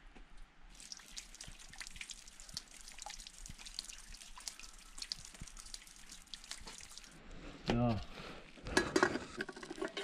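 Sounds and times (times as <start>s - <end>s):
water dripping into plastic bottle: 0.7s - 10.0s.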